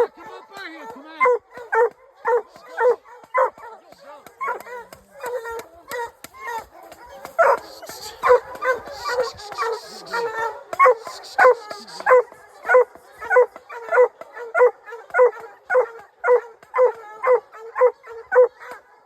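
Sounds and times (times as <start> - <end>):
other dogs barking: 0.0 - 0.2, 0.8 - 19.0
hound barking rhythmically: 0.0 - 19.0.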